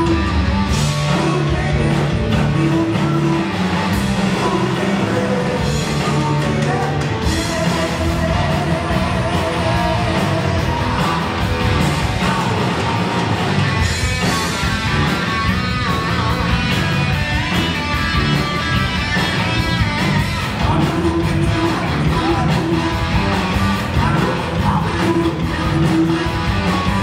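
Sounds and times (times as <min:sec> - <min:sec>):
heavy metal band playing: 0:00.0 - 0:27.0.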